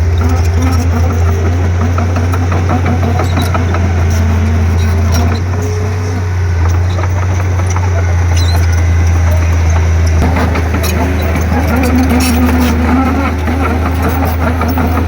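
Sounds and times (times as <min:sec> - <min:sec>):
bulldozer diesel engine droning: 0:00.0 - 0:15.0
clicks and rattles: 0:00.0 - 0:15.0.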